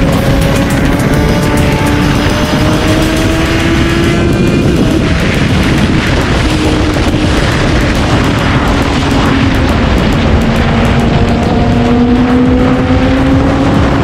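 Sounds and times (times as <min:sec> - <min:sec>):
heavy wind rush: 0:00.0 - 0:14.0
motorcycle engine at high revs: 0:00.0 - 0:14.0.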